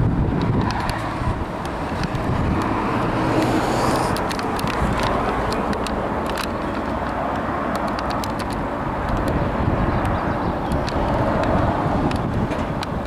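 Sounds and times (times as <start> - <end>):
vehicle noise: 0.0 - 13.0
faint clicks: 1.6 - 13.0.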